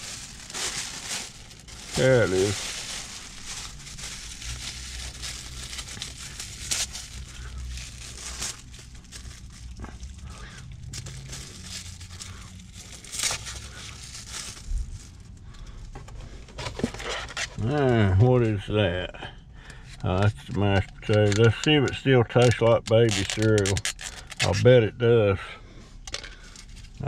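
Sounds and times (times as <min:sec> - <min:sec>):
paper and plastic crinkling: 0:00.0 - 0:18.7, 0:19.7 - 0:24.8, 0:26.0 - 0:27.0
low steady hum: 0:00.0 - 0:27.0.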